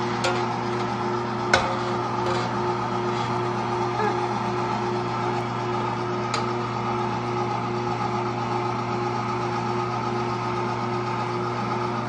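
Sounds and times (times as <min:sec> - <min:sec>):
electric meat grinder running: 0:00.0 - 0:12.0.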